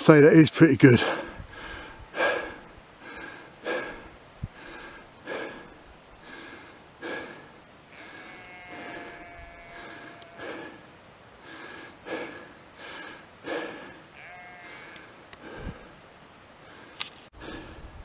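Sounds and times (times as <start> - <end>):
man breathing heavily: 1.0 - 9.2, 9.8 - 16.0, 16.6 - 18.0.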